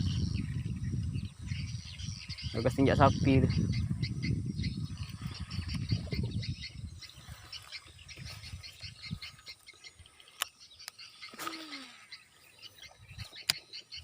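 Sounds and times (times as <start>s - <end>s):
frogs chirping: 0.0s - 14.0s.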